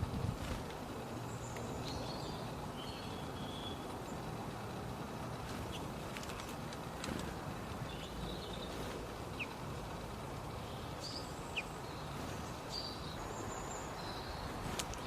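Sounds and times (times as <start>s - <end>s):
birds chirping: 0.0s - 15.0s
steady background hiss: 0.0s - 15.0s.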